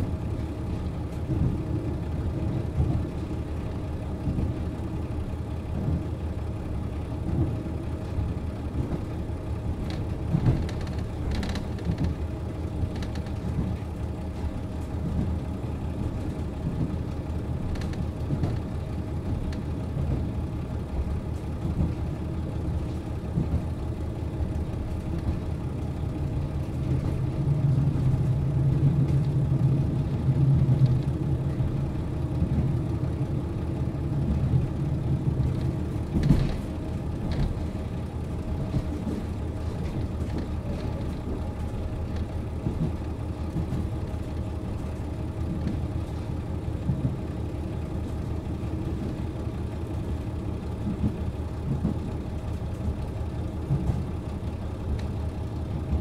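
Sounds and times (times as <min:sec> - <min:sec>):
diesel railcar engine idling: 0:00.0 - 0:56.0.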